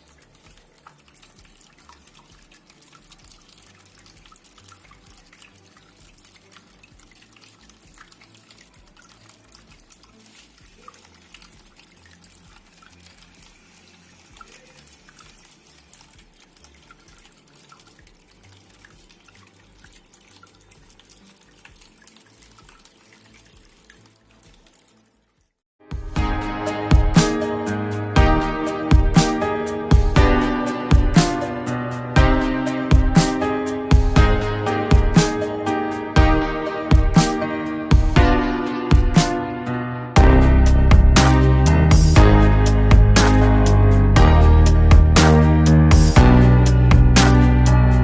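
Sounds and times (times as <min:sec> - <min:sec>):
fountain water trickling: 0:00.0 - 0:39.4, 0:40.2 - 0:48.0.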